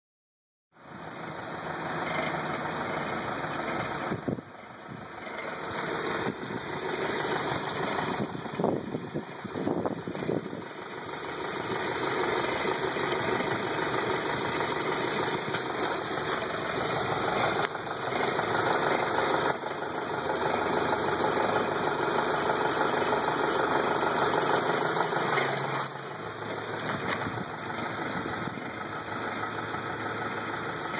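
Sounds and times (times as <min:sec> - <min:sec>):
car engine running: 0:00.8 - 0:30.9
unidentified engine noise: 0:00.8 - 0:30.9.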